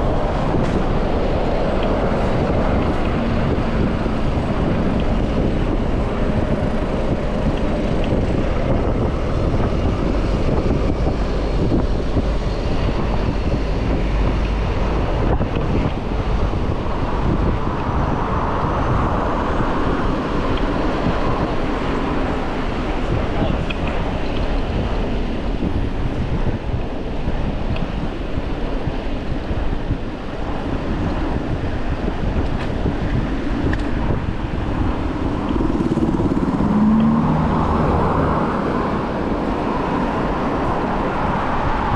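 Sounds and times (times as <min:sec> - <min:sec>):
city traffic noise: 0:00.0 - 0:41.9
wind buffeting microphone: 0:00.0 - 0:41.9.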